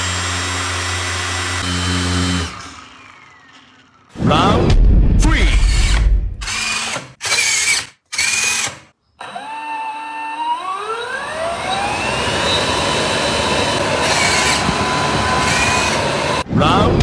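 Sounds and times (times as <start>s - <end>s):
small electric motor whining: 0.0s - 4.2s, 5.4s - 16.5s.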